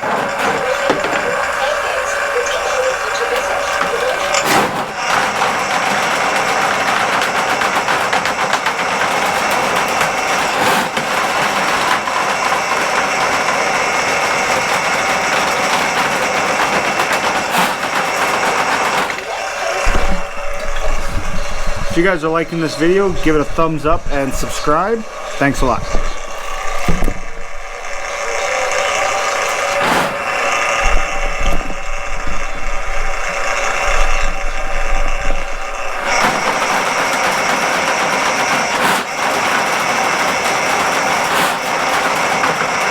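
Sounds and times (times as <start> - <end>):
electric drain snake droning: 0.0 - 42.9.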